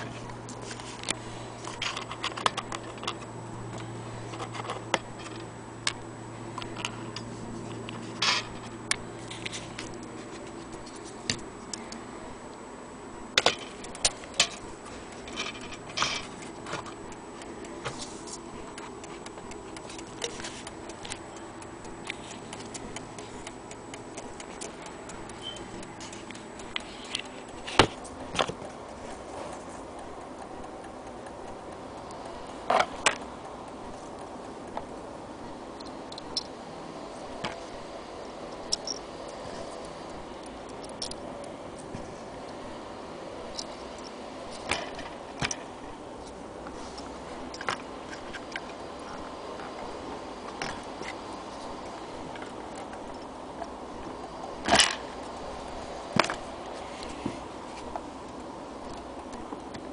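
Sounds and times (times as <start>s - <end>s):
sharp clicks and knocks: 0.0s - 12.0s, 13.3s - 36.6s, 43.5s - 59.9s
steady low hum: 0.0s - 59.9s.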